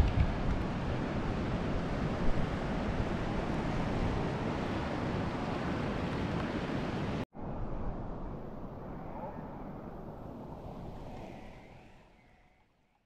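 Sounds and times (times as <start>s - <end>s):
wind noise on microphone: 0.0s - 12.6s.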